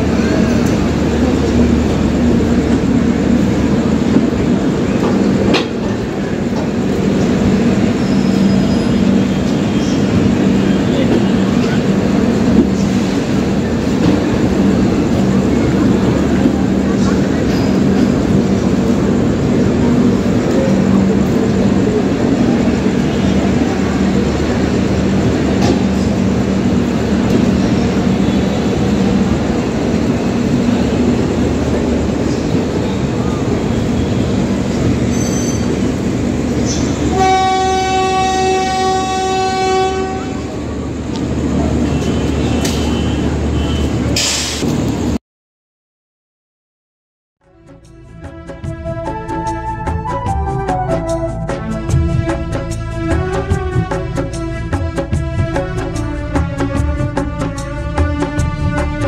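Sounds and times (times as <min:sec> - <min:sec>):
train wheels rumbling on rail: 0:00.0 - 0:45.2, 0:47.5 - 0:59.0.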